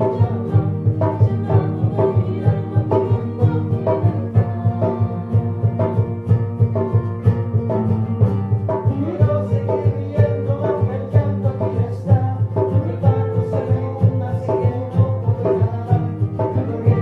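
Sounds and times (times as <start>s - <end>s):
plucked-string instrumental music: 0.0s - 17.0s
steady bass beat: 0.0s - 17.0s.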